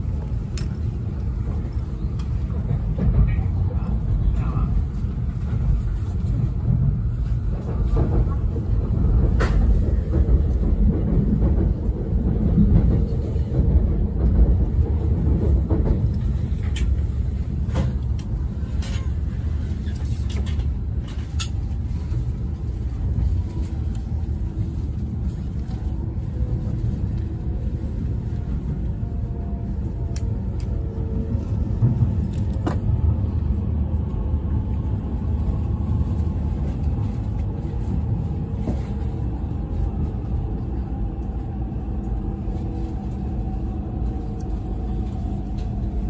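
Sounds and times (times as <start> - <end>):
train rumbling: 0.0 - 46.0.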